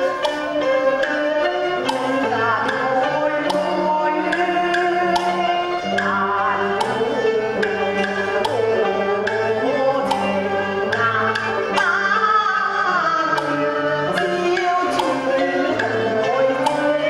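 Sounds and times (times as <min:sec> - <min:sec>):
opera instrumental melody: 0:00.0 - 0:17.0.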